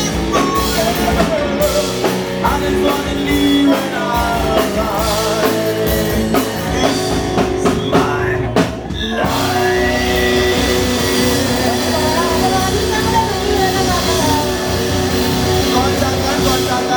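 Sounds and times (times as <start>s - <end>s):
rock band music: 0.0s - 16.9s.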